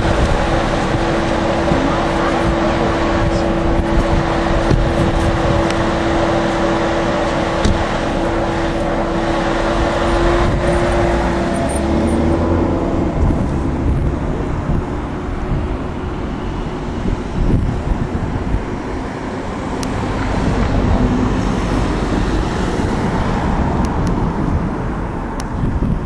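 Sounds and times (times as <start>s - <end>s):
road and wind noise: 0.0s - 26.0s
vehicle engine hum: 0.0s - 26.0s.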